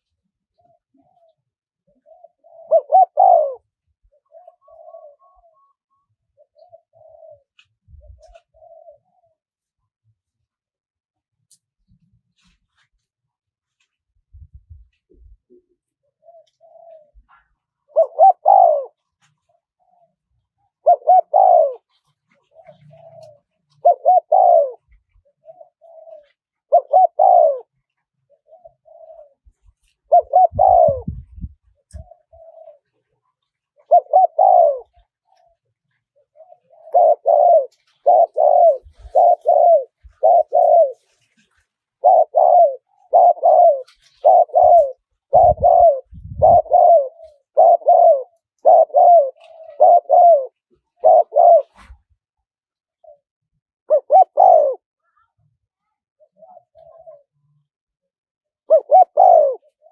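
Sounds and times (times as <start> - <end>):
dove cooing: 0.0 - 9.4, 14.7 - 52.0, 53.0 - 53.2, 53.9 - 57.7, 58.6 - 59.9.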